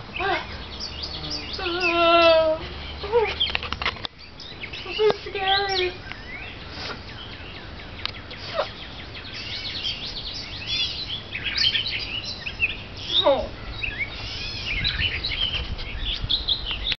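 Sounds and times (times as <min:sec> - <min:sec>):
birds chirping and twittering: 0:00.0 - 0:16.9.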